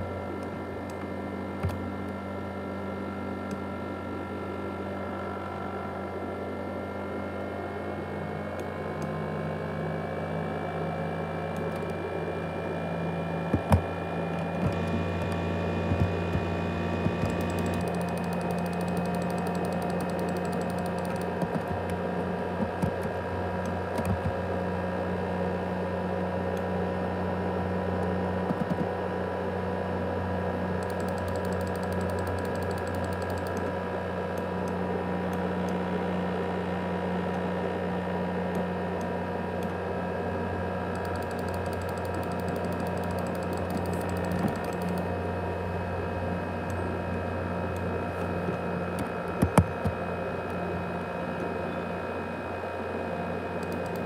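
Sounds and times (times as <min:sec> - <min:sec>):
laptop cooling fan whining: 0:00.0 - 0:54.0.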